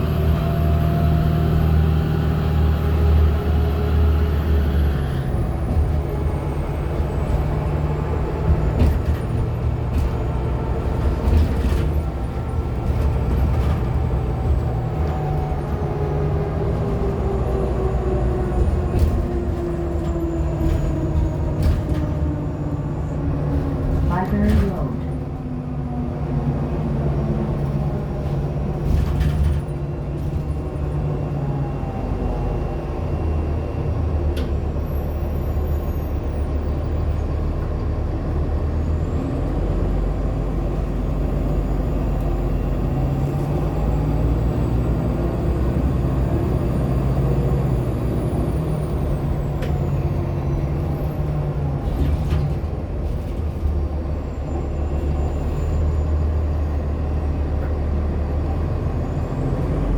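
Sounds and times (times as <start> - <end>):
bus drivetrain hum: 0.0 - 59.9
bus knocks and rattles: 0.0 - 59.9.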